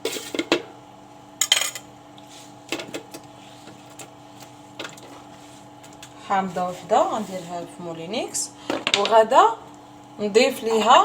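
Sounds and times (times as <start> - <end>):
background hum: 0.0 - 11.0.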